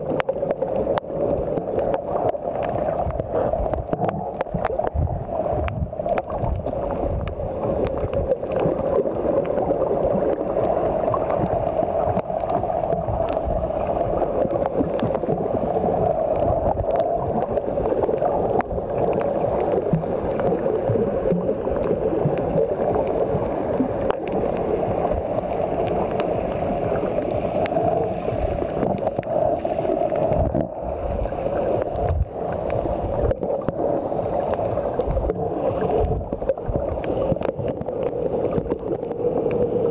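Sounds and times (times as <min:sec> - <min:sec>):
low underwater rumble: 0:00.0 - 0:39.9
muffled underwater gurgling: 0:00.0 - 0:39.9.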